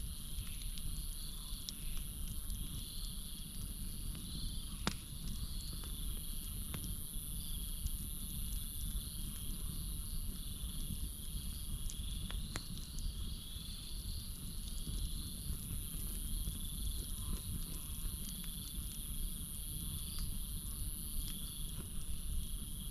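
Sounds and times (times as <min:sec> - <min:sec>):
campfire crackling: 0:00.0 - 0:22.9
crickets and night insects trilling: 0:00.0 - 0:22.9.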